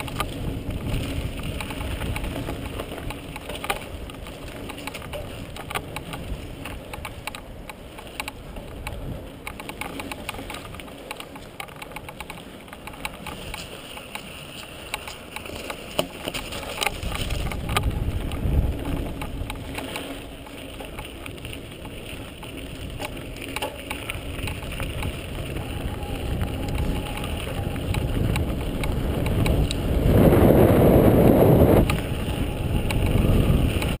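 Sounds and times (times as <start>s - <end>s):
wind rushing on microphone: 0.0s - 10.8s, 15.4s - 34.0s
bike rattling over bumps: 0.0s - 34.0s
bike tyres rumbling on dirt: 0.0s - 34.0s.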